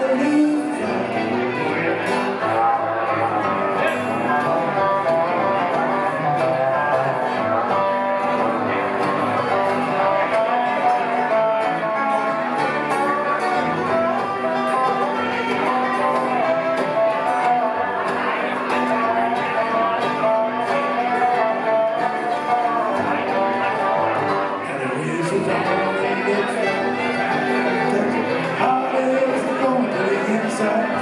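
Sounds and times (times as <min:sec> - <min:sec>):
acoustic guitar: 0:00.0 - 0:31.0
banjo: 0:00.0 - 0:31.0
fiddle: 0:00.0 - 0:31.0.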